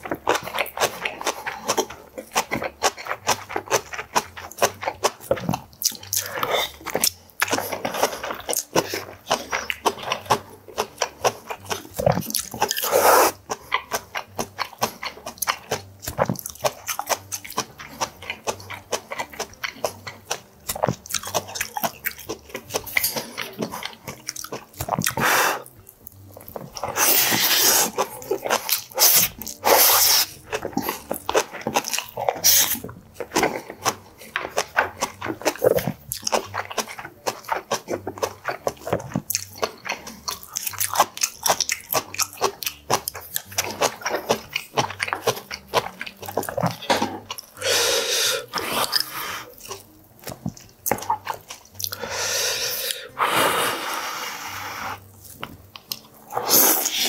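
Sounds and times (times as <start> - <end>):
wet chewing mouth clicks: 0.0 - 57.0.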